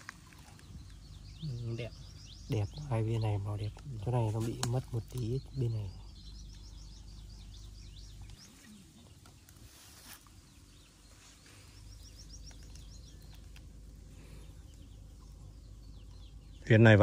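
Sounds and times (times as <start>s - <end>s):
faint high bird chirps: 0.0s - 17.0s
low background rumble: 0.0s - 17.0s.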